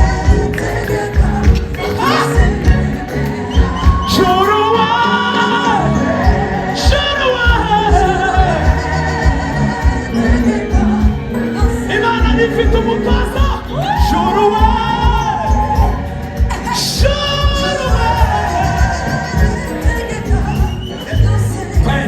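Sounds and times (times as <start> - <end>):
band accompaniment with drum beat: 0.0 - 22.0
voices singing gospel song: 0.0 - 22.0.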